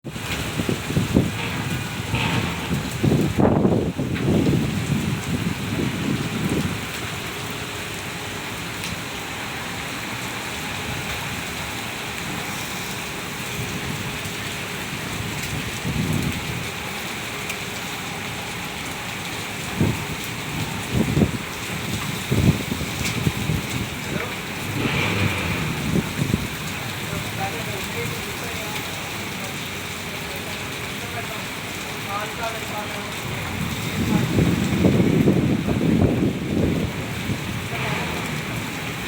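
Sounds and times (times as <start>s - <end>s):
steady rain hiss: 0.1s - 39.0s.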